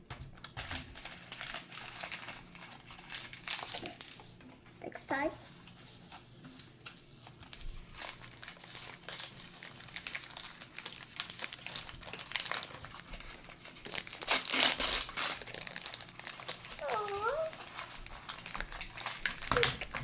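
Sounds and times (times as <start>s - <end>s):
packaging crinkling: 0.0s - 4.7s, 5.4s - 20.0s.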